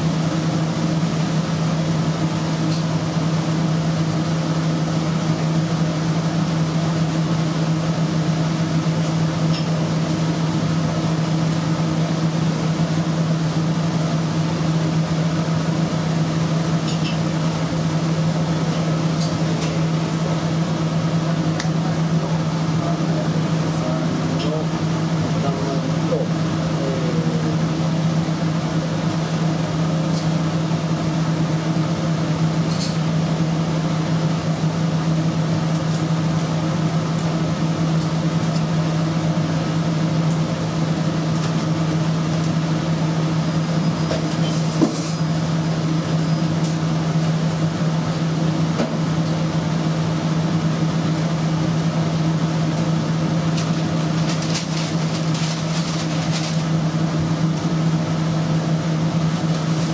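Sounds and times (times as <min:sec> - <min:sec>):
kitchen machinery hum: 0:00.0 - 0:59.9.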